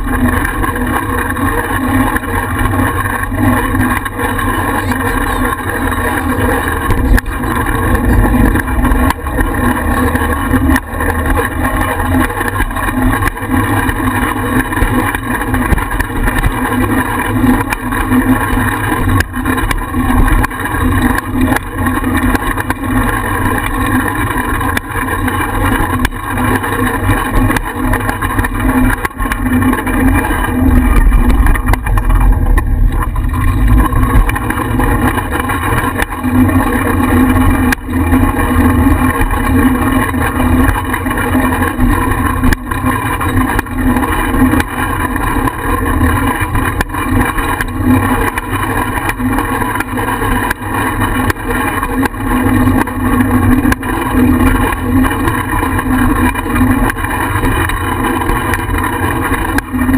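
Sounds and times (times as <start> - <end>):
bicycle ride rumble: 0.0 - 59.9.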